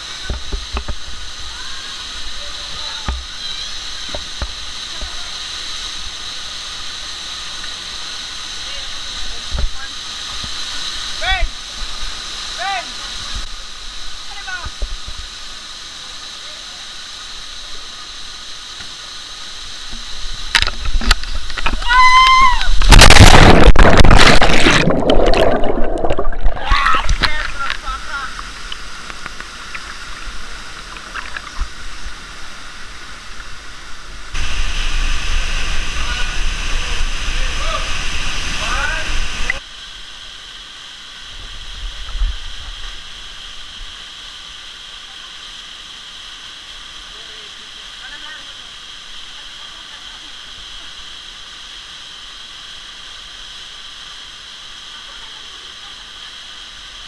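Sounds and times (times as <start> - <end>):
rushing river water: 0.0 - 57.0.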